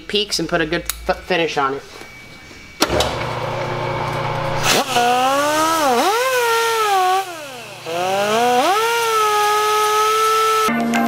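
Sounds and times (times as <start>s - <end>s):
polishing machine motor whining: 1.8s - 10.7s.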